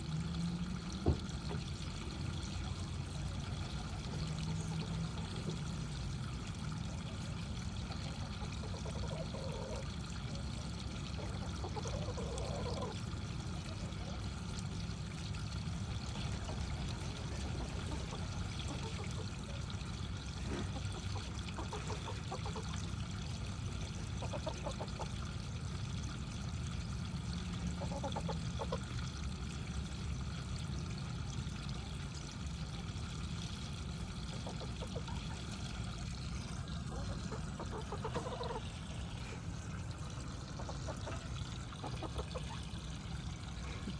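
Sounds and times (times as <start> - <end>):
pond waterfall pouring: 0.0 - 43.9.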